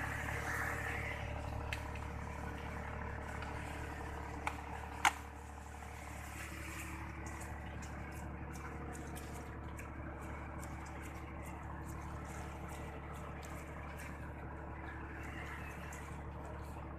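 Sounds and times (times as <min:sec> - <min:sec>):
low engine hum: 0:00.0 - 0:16.9.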